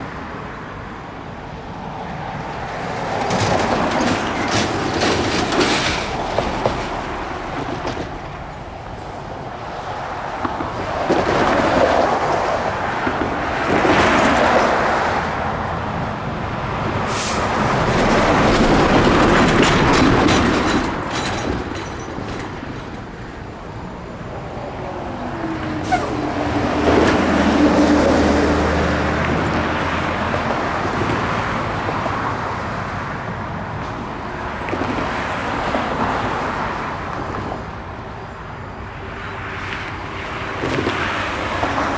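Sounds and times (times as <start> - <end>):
freight train wheels clicking: 1.8 - 38.3.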